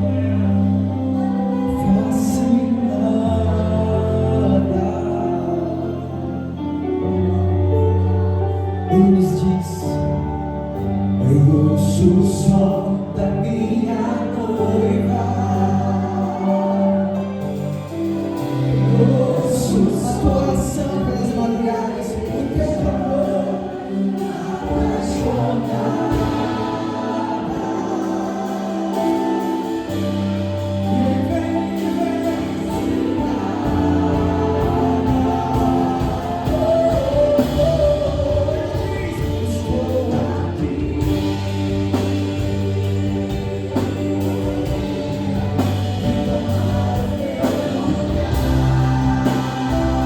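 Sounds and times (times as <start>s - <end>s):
held chords: 0.0s - 50.0s
steady bass line: 0.0s - 50.0s
voices singing worship music: 0.0s - 50.0s.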